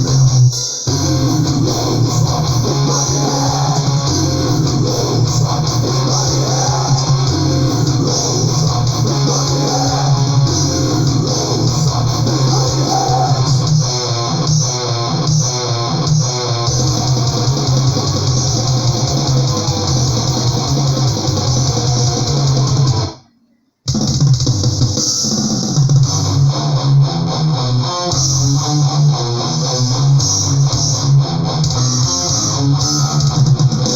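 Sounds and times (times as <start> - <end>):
heavy metal music: 0.0 - 23.2, 23.9 - 33.9.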